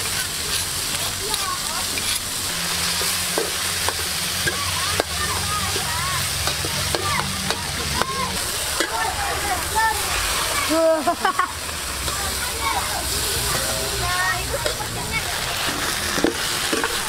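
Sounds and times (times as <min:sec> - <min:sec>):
metal spatula scraping wok: 0:00.0 - 0:10.6, 0:11.6 - 0:17.0
paste sizzling in oil: 0:00.0 - 0:17.0.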